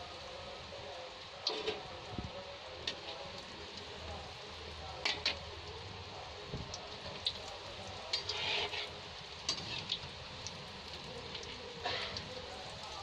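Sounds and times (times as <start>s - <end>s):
bread sizzling in hot oil: 0.0s - 13.0s
oil crackling and popping: 0.0s - 13.0s.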